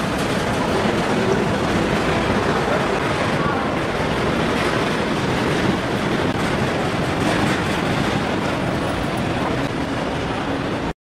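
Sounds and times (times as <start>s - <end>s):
indistinct crowd noise: 0.0s - 10.9s.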